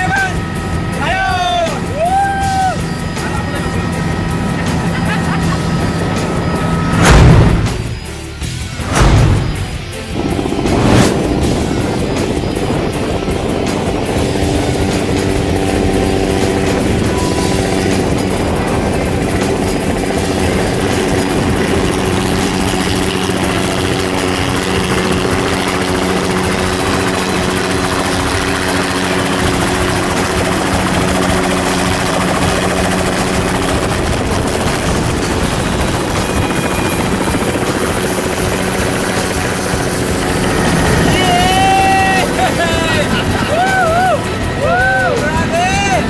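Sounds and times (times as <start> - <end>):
helicopter rotor and engine: 0.0 - 46.0.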